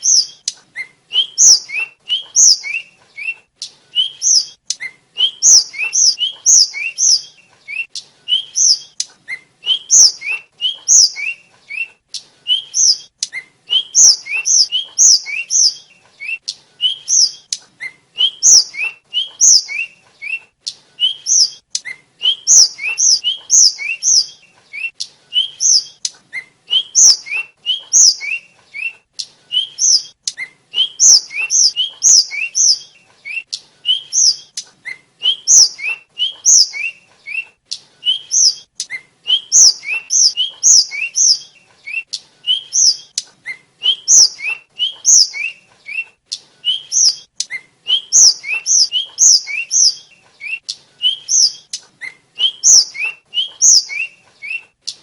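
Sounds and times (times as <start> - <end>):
flycatcher singing whistled notes: 0.0 - 54.6.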